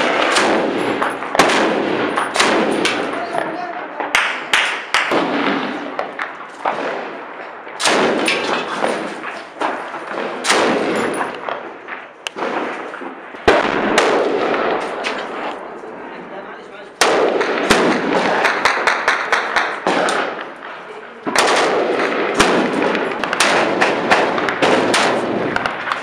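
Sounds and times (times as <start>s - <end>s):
echoing gunshots: 0.0s - 26.0s.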